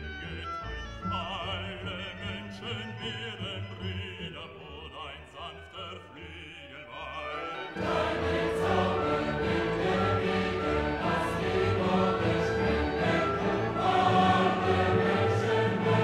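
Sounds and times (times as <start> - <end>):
operatic classical music: 0.0 - 16.0.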